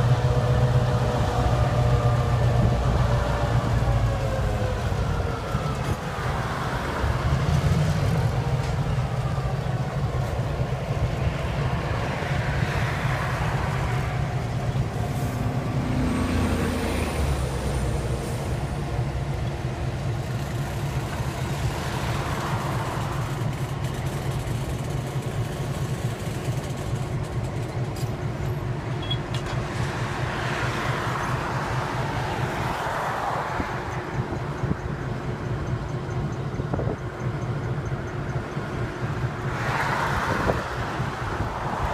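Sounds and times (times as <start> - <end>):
diesel locomotive engine rumble: 0.0 - 41.9.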